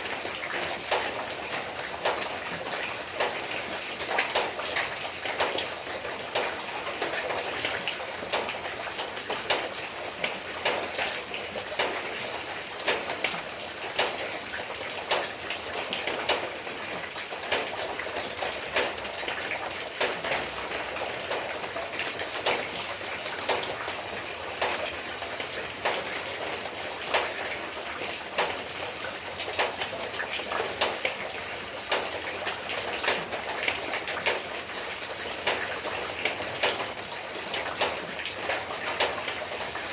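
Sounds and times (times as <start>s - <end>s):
raindrops tapping: 0.2s - 39.9s.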